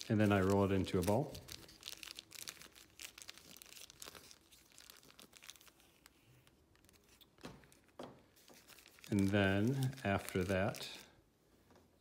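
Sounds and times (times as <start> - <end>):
plastic parachute crinkling: 0.0 - 11.3.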